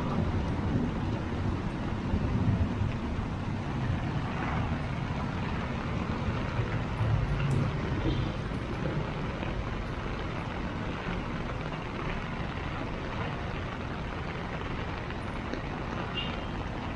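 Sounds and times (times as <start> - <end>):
heavy rain falling: 0.0 - 16.9
road traffic rumble: 0.0 - 16.9.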